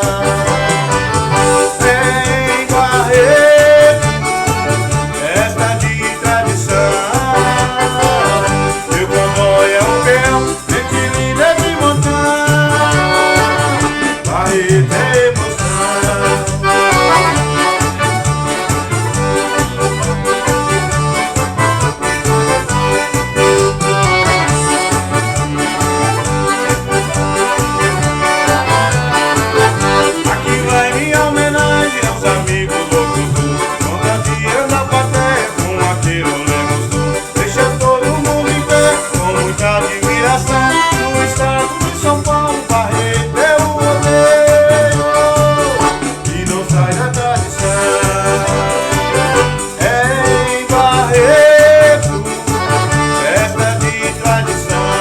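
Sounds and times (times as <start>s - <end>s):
band playing accordion-led music: 0.0s - 55.0s
bass and drum beat: 0.0s - 55.0s.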